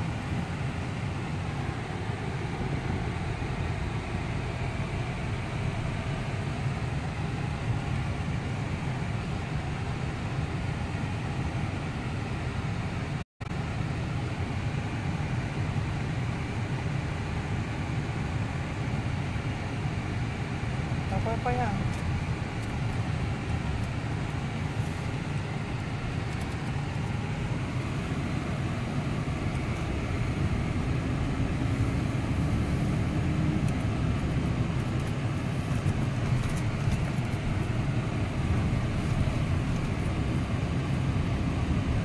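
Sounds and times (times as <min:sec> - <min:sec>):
car cabin road rumble: 0:00.0 - 0:42.0.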